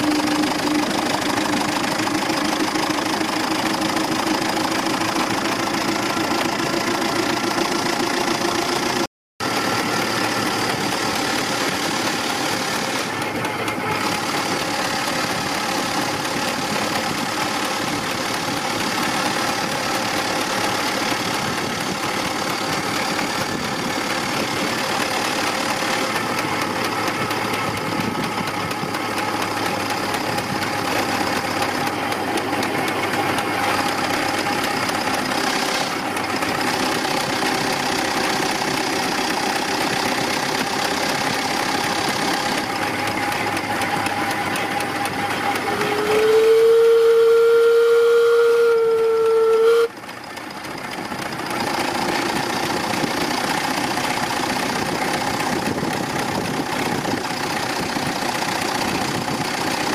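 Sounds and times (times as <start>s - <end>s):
steam engine running: 0.0s - 59.9s
wheels on road: 0.0s - 59.9s.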